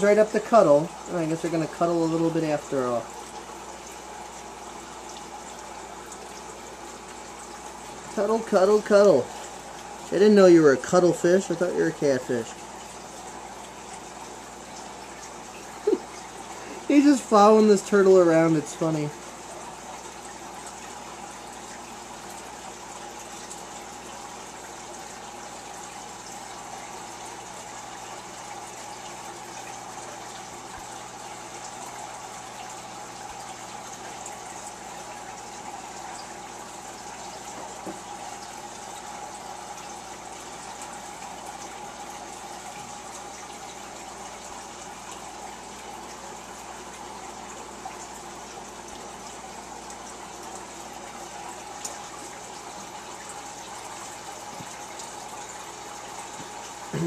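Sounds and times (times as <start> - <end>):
faint steady hum: 0.0 - 57.0
water splashing trickle: 0.0 - 57.0.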